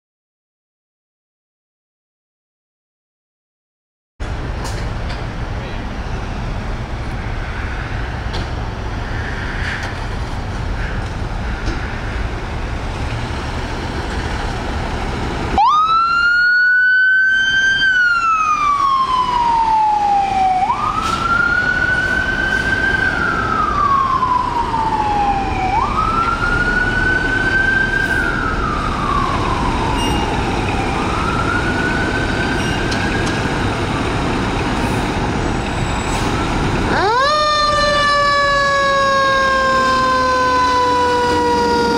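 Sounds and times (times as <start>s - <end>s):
street traffic rumbling: 4.2s - 41.9s.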